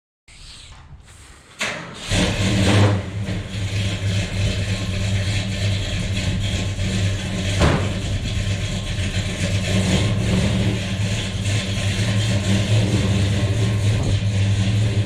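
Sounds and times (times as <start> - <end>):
car engine droning: 1.9 - 15.0.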